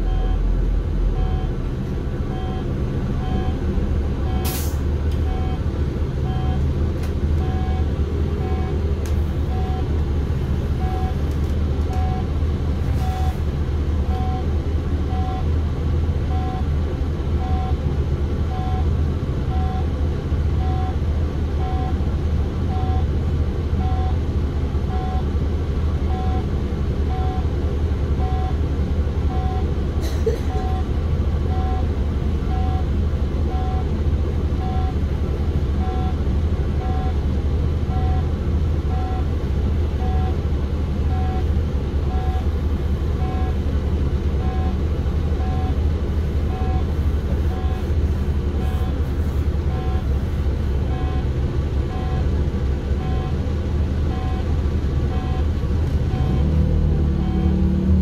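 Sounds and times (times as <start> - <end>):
bus engine rumble: 0.0 - 58.0.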